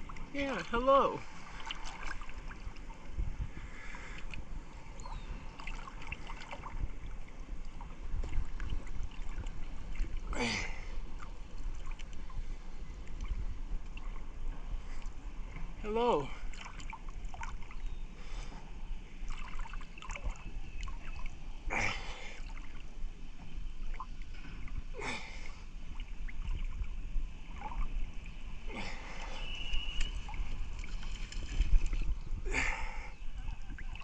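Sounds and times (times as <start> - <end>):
water splashing and lapping: 0.0 - 34.0.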